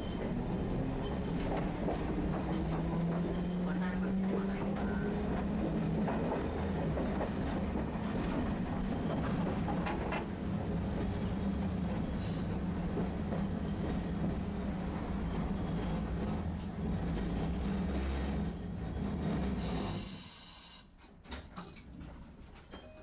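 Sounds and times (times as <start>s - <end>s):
tram wheels clicking on track: 0.1s - 20.2s.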